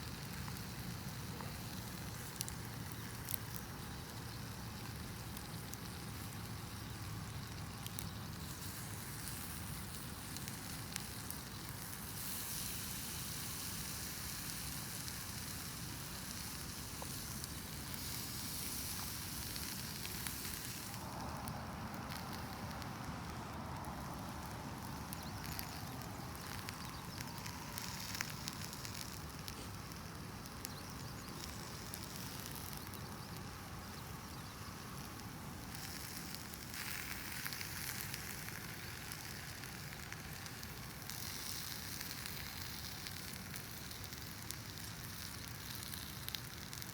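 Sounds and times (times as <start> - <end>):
campfire crackling and popping: 0.0 - 46.9
food sizzling over fire: 0.0 - 46.9
strong hiss: 8.2 - 46.7.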